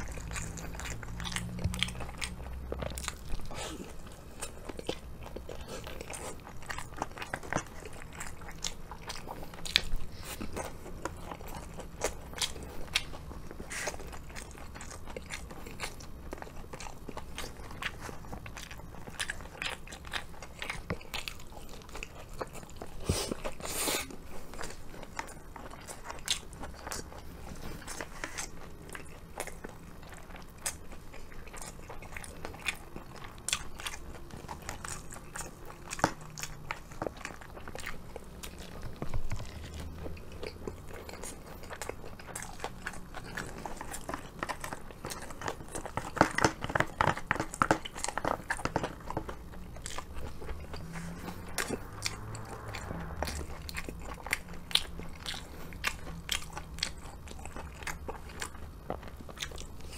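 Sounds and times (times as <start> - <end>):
chewing crispy fried chicken: 0.0 - 59.9.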